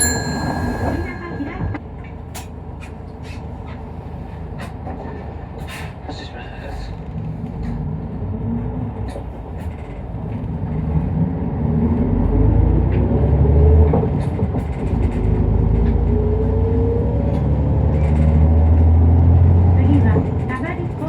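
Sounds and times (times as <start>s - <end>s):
bus diesel engine rumble: 0.0s - 21.0s.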